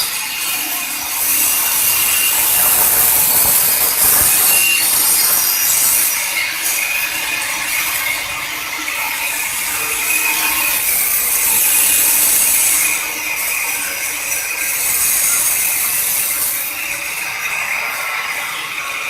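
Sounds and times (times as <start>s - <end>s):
stone carving machine grinding: 0.0s - 19.0s.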